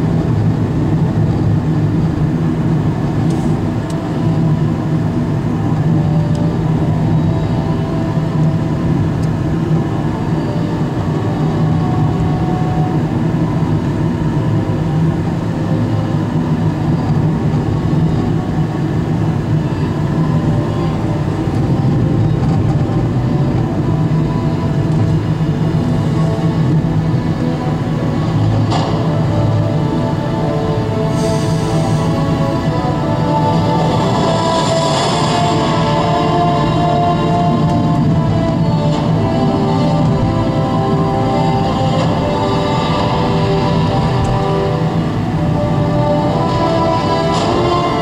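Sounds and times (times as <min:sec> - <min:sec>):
car engine rumble: 0:00.0 - 0:48.0
tyres rolling on road: 0:00.0 - 0:48.0.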